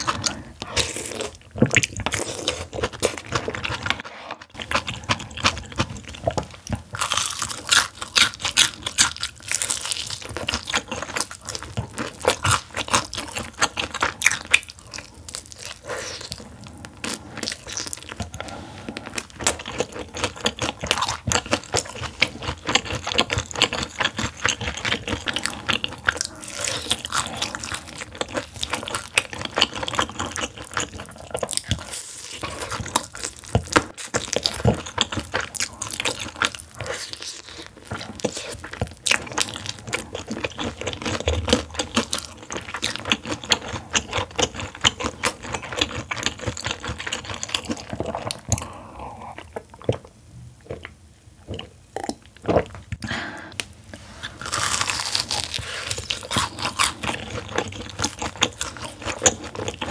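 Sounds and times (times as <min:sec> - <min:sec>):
crunching and chewing fried chicken: 0:00.0 - 0:59.9.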